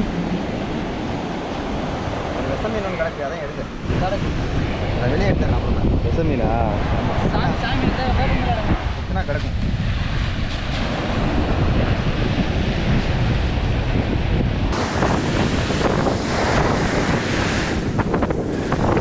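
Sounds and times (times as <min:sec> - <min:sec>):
surf breaking on shore: 0:00.0 - 0:05.9, 0:06.7 - 0:19.0
wind on microphone: 0:00.0 - 0:19.0.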